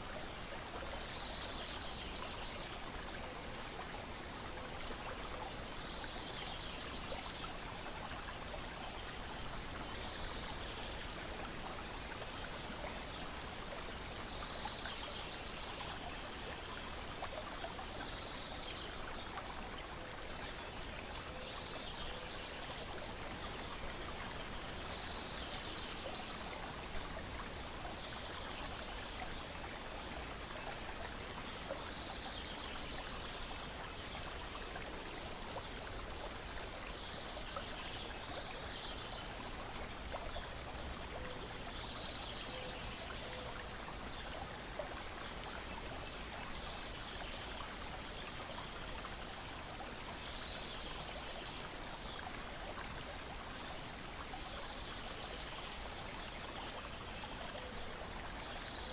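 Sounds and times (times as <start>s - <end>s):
water lapping and trickling: 0.0s - 58.9s.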